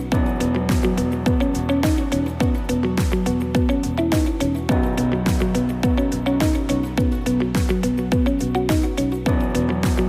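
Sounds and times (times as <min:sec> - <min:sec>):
kick drum beat: 0:00.0 - 0:10.0.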